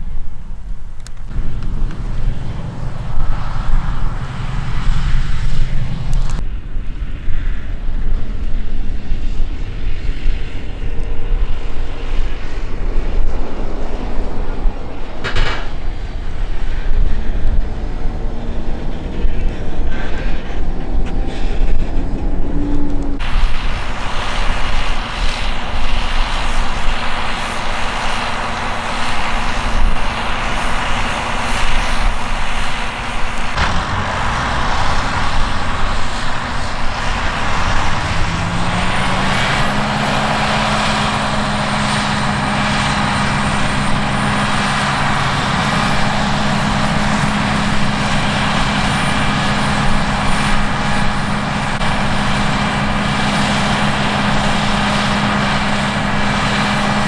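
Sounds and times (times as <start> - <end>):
diesel engine running: 0.1 - 7.0, 9.2 - 57.0.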